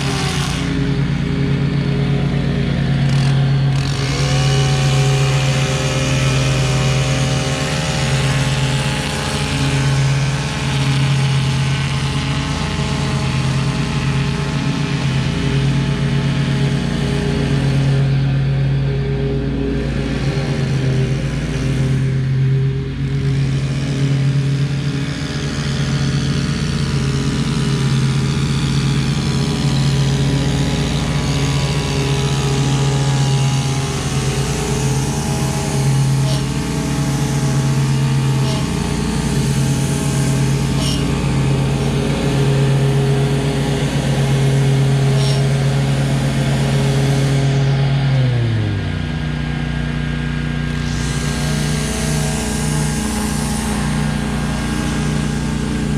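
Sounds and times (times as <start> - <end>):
lawn mower engine: 0.0 - 55.9
string trimmer engine whine: 0.0 - 55.9.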